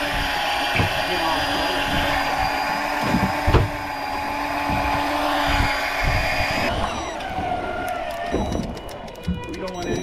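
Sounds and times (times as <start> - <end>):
fishing reel motor whining: 0.0 - 10.0.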